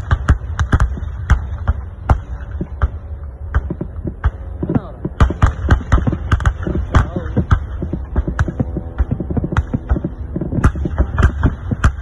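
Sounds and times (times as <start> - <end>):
cannon firing bangs: 0.0 - 12.0
steady low rumble: 0.0 - 12.0.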